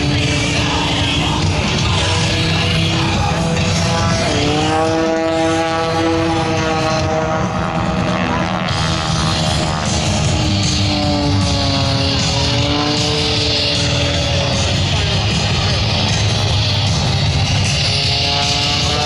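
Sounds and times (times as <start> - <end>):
loud music: 0.0 - 19.0
propeller plane engine: 0.0 - 19.0.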